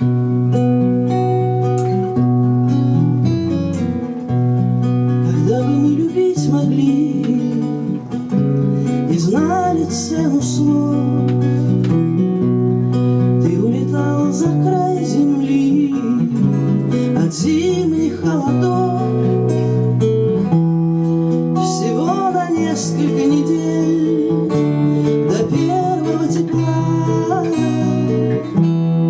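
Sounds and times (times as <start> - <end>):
acoustic guitar: 0.0 - 29.0.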